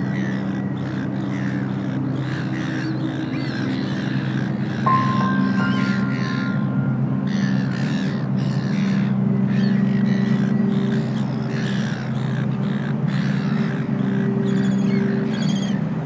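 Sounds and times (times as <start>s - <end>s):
birds calling: 0.0s - 16.0s
low music drone: 0.0s - 16.0s.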